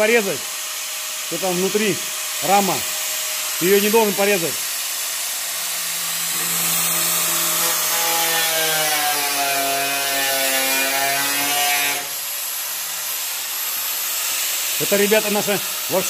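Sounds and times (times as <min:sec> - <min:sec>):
angle grinder cutting sheet metal: 0:00.0 - 0:16.0.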